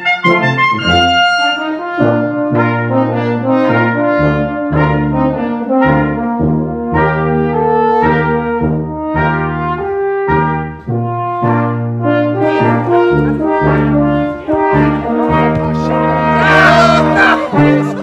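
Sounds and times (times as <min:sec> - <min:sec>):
brass ensemble playing: 0:00.0 - 0:18.0.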